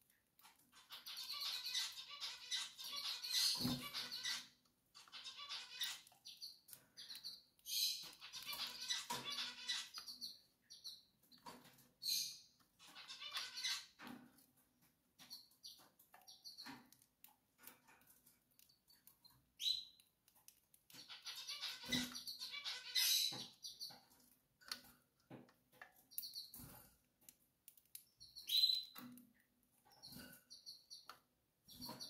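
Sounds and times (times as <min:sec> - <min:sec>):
canaries chirping: 0:00.0 - 0:32.0.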